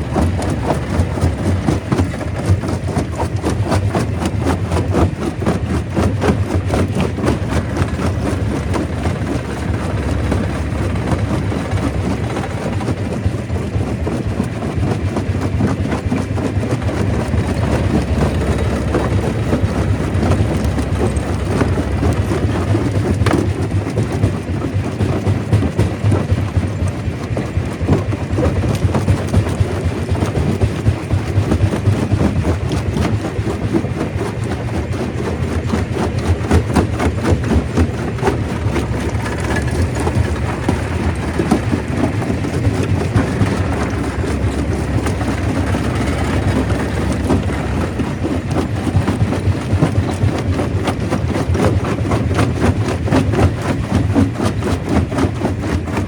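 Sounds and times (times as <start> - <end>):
stone crusher rumbling: 0.0 - 56.0.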